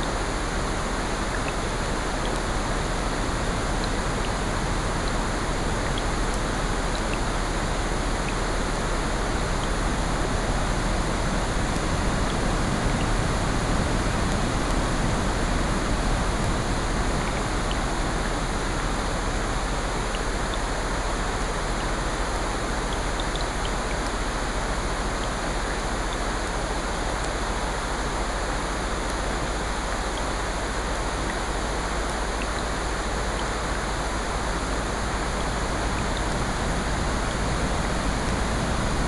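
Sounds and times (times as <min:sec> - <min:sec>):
rain: 0:00.0 - 0:39.0.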